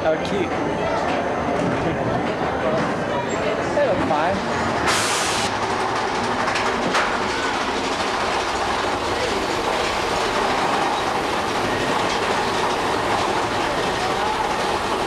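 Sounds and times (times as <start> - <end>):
roller coaster wheels clattering on rail: 0.2 - 15.0.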